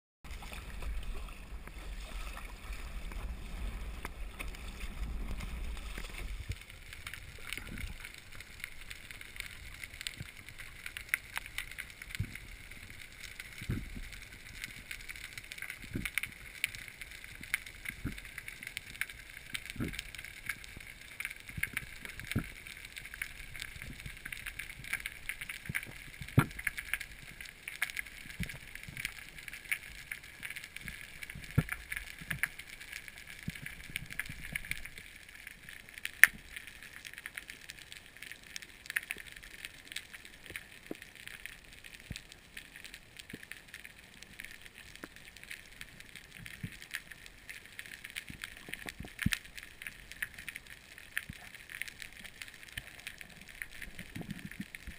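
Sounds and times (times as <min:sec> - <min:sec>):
faint crackling: 0:00.2 - 0:54.9.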